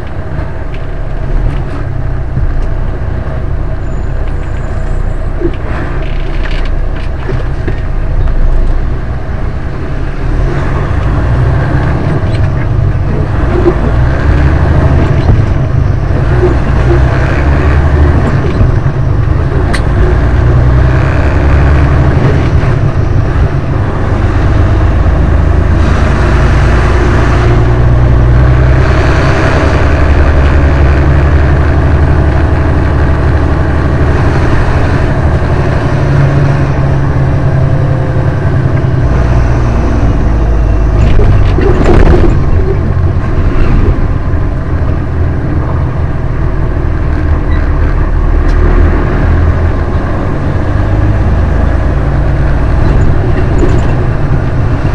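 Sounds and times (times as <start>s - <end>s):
diesel truck engine from cab: 0.0s - 54.9s.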